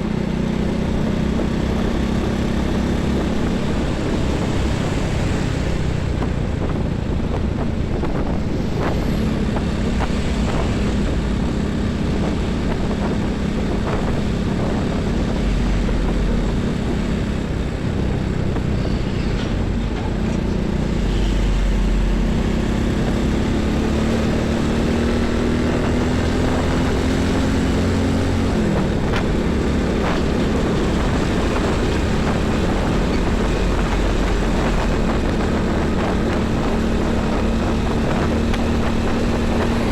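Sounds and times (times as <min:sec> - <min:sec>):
highway traffic passing: 0:00.0 - 0:39.9.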